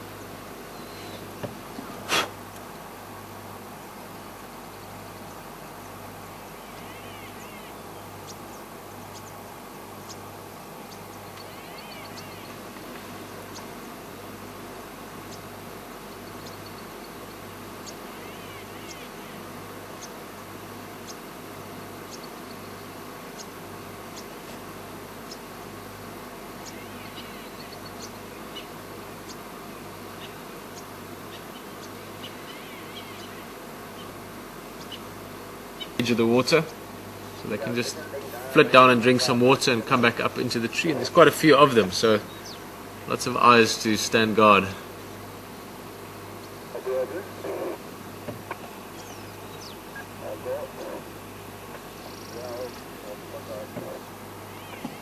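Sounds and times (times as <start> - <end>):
birds trilling: 0.0 - 55.0
low hum and hiss: 0.0 - 55.0.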